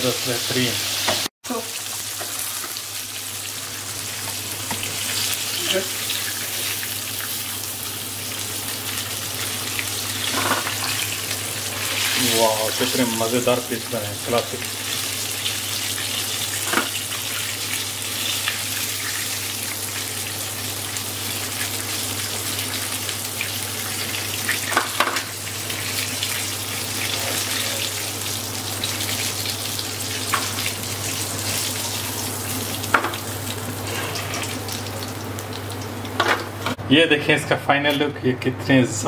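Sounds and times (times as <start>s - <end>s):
chicken sizzling in hot oil: 0.0s - 36.8s.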